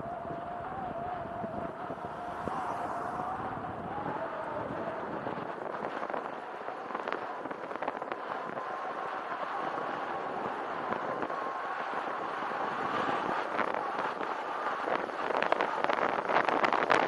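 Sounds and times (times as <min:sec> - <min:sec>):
bicycle tyres rolling on gravel: 0:00.0 - 0:17.0
faint steady whine: 0:00.0 - 0:17.0.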